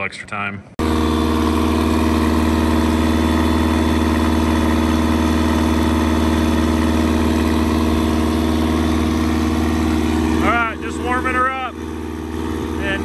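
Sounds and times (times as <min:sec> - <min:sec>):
aircraft engine idling: 0:00.8 - 0:13.0.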